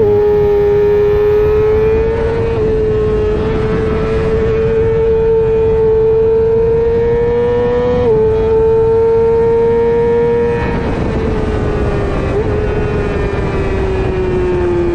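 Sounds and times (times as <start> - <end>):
motorcycle engine at high revs: 0.0 - 14.9
rushing wind noise: 0.0 - 14.9.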